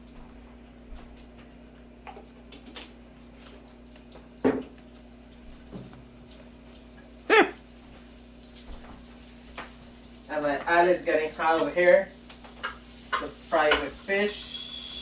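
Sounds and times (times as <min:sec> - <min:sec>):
stovetop cooking noise: 0:00.0 - 0:15.0.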